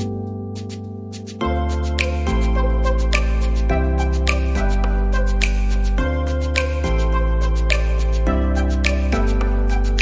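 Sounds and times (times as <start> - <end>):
soft new-age instrumental music: 0.0 - 10.0.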